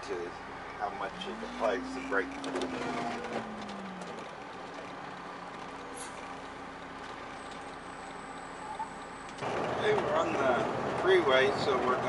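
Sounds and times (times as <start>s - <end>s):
road and engine noise: 0.0s - 12.0s
low engine drone: 0.4s - 10.3s.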